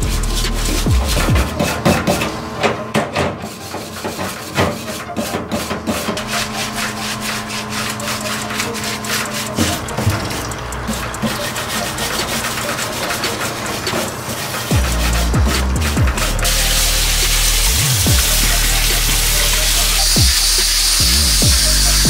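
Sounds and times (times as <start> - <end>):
scrubbing metal part: 0.0 - 22.0.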